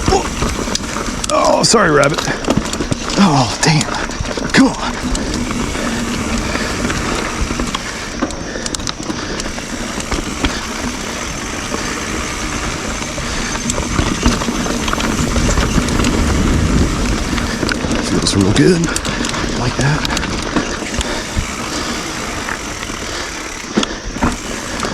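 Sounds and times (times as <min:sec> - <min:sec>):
bike tyres rushing on dirt: 0:00.0 - 0:24.9.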